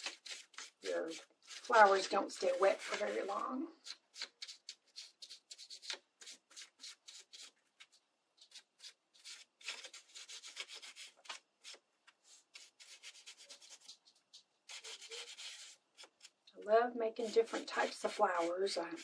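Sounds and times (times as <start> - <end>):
paintbrush swishing on paper: 0.0 - 16.2, 17.1 - 19.0.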